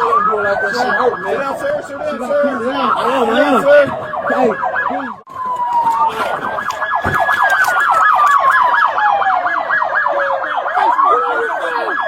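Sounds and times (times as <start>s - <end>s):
police siren fast yelp: 0.0s - 12.0s
police siren slow wail: 0.0s - 12.0s.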